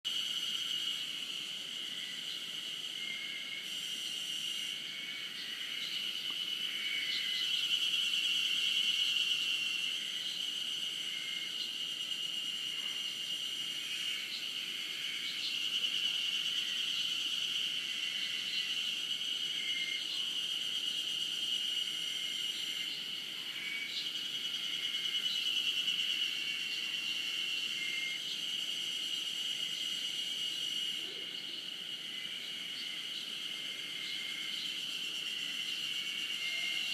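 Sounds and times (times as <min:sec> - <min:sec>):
cicadas droning: 0:00.0 - 0:36.9.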